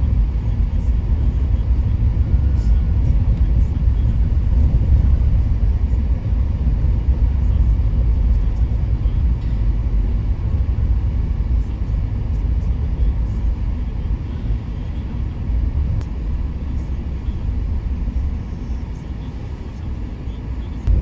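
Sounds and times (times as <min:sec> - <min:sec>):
car driving low rumble: 0:00.0 - 0:21.0.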